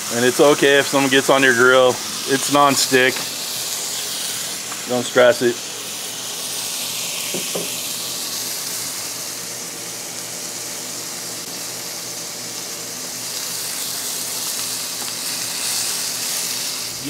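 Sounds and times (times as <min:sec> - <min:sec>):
chicken sizzling on grill: 0:00.0 - 0:17.0.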